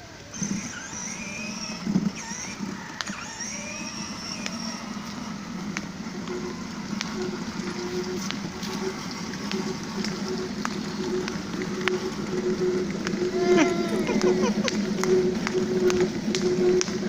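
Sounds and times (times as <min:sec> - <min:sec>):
small motorbike motor running: 0:00.0 - 0:17.0.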